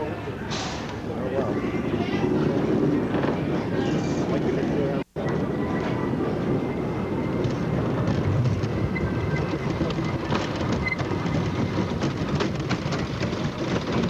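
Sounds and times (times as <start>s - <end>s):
wheels rumbling on wooden track: 0.8s - 14.0s.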